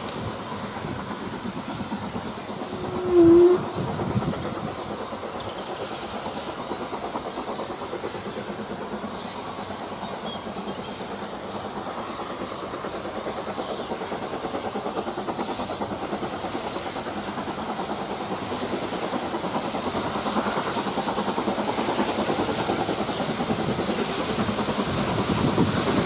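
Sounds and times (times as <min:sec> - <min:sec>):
steam locomotive exhaust beating: 0:00.0 - 0:26.0.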